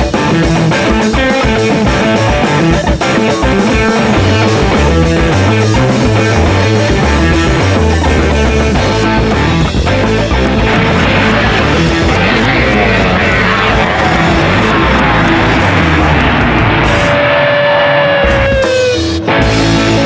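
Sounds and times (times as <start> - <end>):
electric guitar rock music: 0.0 - 20.0.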